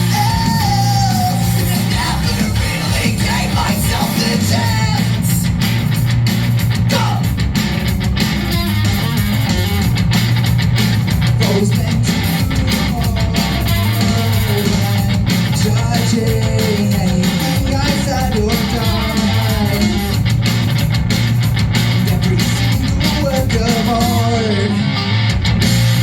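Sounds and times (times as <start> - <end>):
electric guitar: 0.0 - 26.0
live rock band playing: 0.0 - 26.0.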